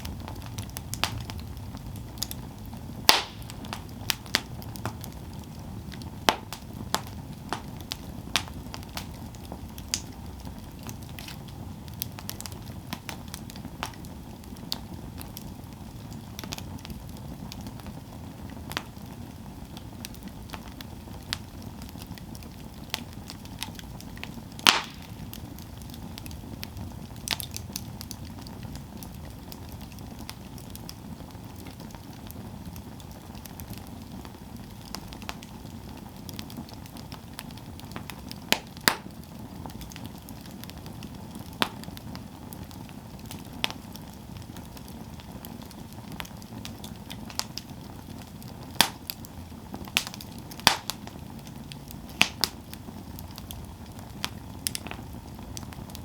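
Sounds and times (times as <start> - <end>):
campfire rumbling: 0.0 - 56.0
fire crackles and pops: 0.0 - 56.0.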